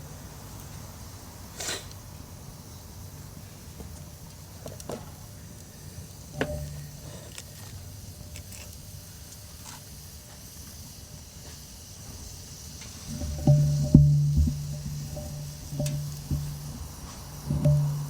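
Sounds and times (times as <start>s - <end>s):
background rumble and hiss: 0.0s - 18.0s.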